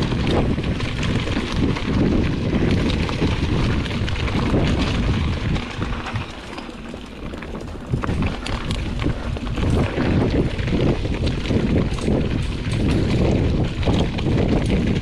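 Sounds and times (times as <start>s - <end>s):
bike rattling and clicking: 0.0s - 15.0s
tyres rumbling over dirt: 0.0s - 15.0s
wind buffeting microphone: 0.0s - 15.0s.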